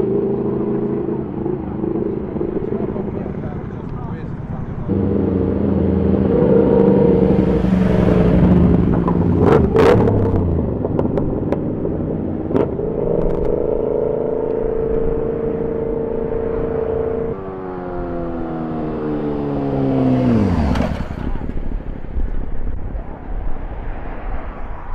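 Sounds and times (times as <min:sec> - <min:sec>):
motorbike engines revving: 0:00.0 - 0:22.3.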